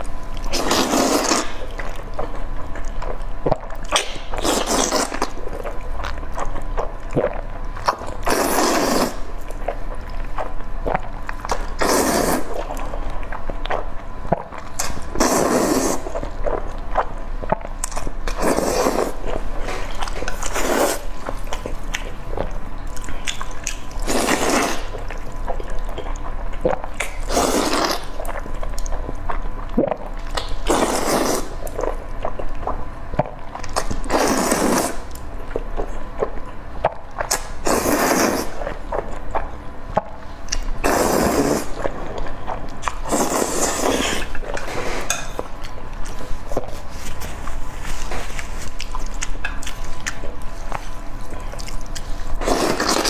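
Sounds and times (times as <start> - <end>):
noisy mouthful eating: 0.0 - 53.0
wet chewing clicks: 0.0 - 53.0.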